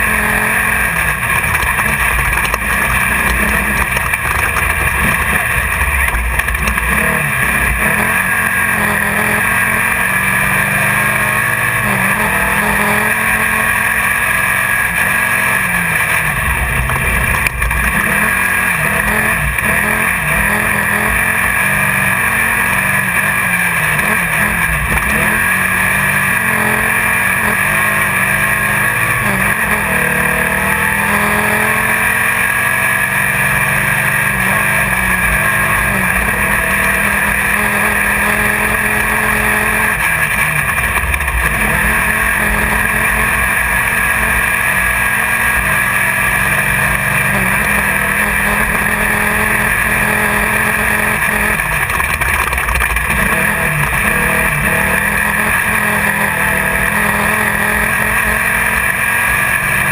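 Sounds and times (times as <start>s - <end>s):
chassis noise: 0.0s - 59.9s
race car engine running hard: 0.0s - 59.9s.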